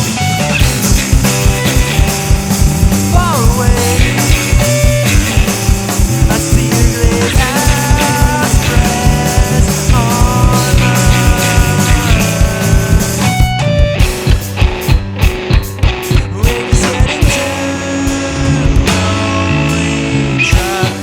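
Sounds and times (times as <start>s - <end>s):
drums and bass: 0.0s - 21.0s
electric guitar with bending notes: 0.0s - 21.0s.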